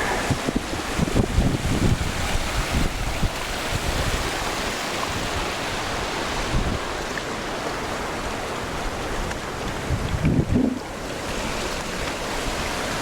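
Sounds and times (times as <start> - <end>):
wind rumbling on microphone: 0.0 - 7.1, 7.8 - 13.0
ocean surf washing over rocks: 0.0 - 13.0.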